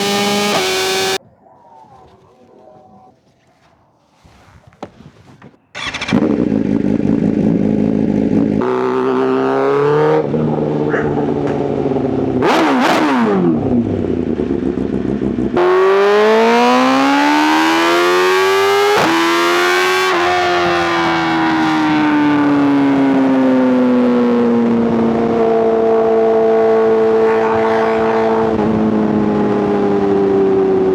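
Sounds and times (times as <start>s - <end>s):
superbike engines at high revs: 0.0s - 1.2s, 5.7s - 30.9s
motorcycle passing by: 5.8s - 30.9s.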